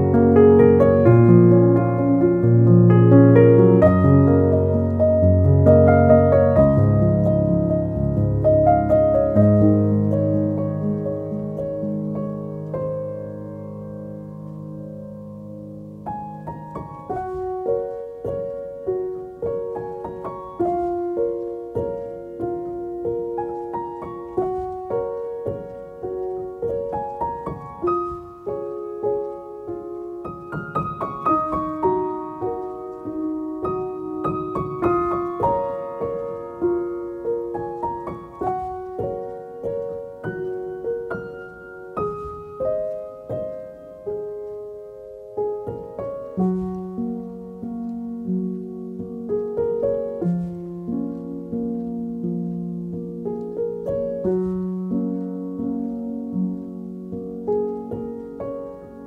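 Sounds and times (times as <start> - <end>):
piano melody: 0.0 - 59.0.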